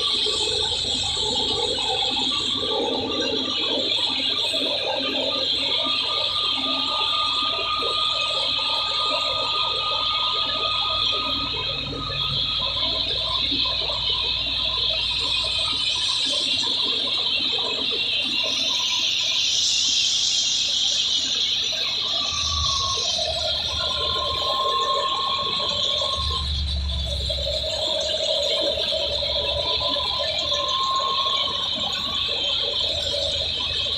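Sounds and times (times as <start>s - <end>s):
thresher high-pitched whine: 0.0s - 33.9s.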